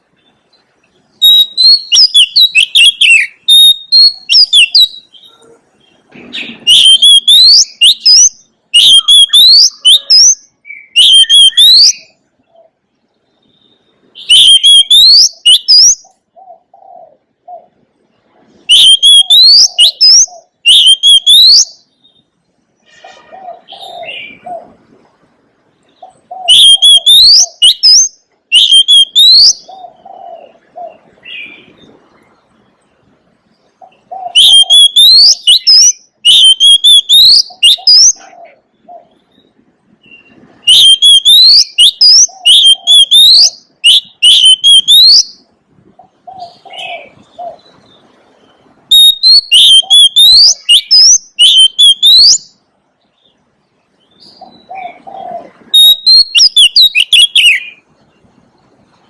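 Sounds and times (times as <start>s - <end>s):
bird singing whistled notes: 0.2s - 16.7s, 18.7s - 22.5s, 25.9s - 31.8s, 33.8s - 45.5s, 46.3s - 52.6s, 54.0s - 57.9s.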